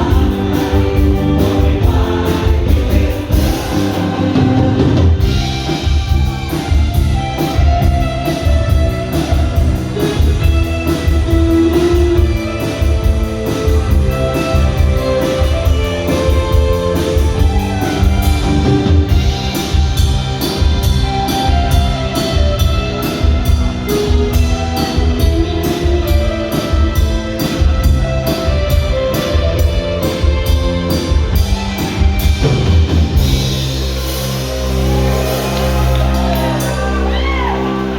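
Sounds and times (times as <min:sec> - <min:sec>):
drum kit with cymbal beat: 0:00.0 - 0:37.4
guitar: 0:00.0 - 0:37.9
instrumental rock music: 0:00.0 - 0:37.9.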